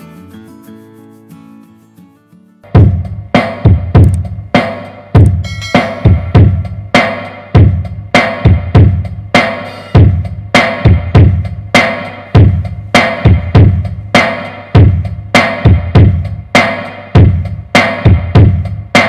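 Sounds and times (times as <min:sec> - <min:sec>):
drum kit playing a steady beat: 0:02.6 - 0:19.0.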